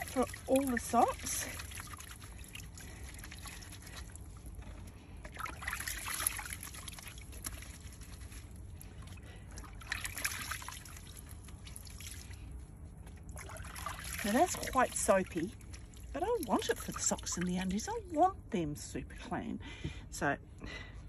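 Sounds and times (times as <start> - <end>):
water dripping into a tub: 0.0 - 18.5.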